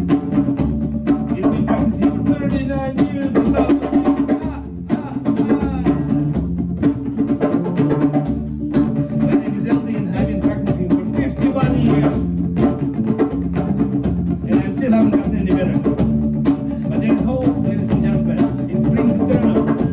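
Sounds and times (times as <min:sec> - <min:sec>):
drum kit steady beat: 0:00.0 - 0:19.9.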